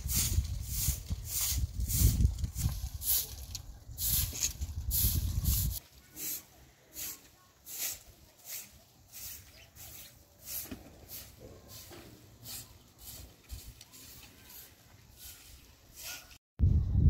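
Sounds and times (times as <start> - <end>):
broom sweeping dirt: 0.0 - 16.4.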